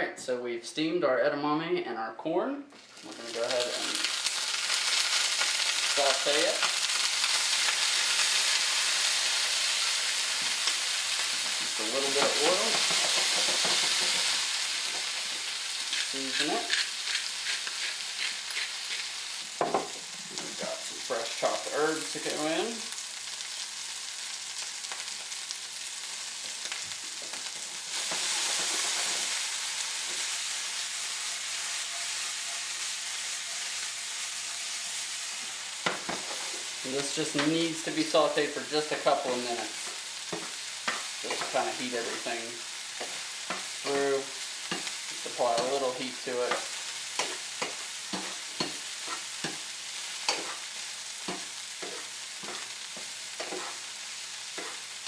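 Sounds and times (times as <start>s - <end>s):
vegetables sizzling in a pan: 2.8s - 55.0s.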